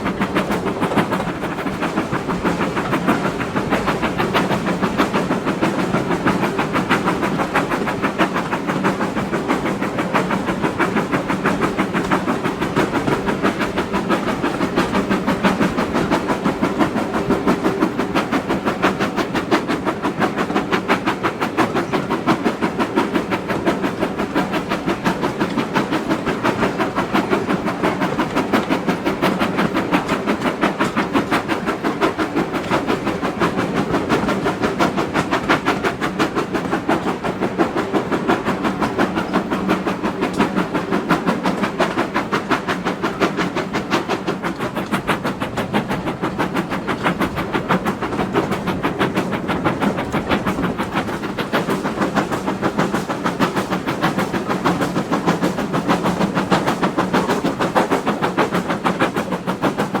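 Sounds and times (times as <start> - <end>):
steam locomotive exhaust beat: 0.0 - 60.0.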